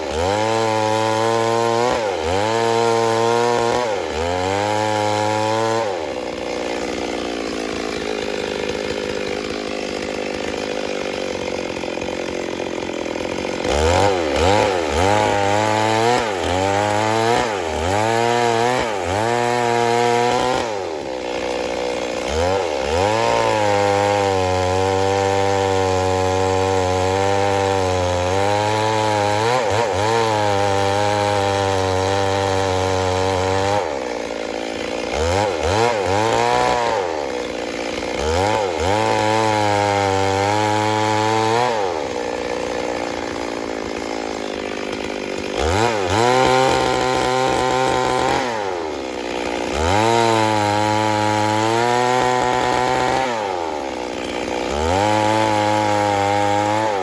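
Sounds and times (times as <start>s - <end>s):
chainsaw sawing wood: 0.0s - 57.0s.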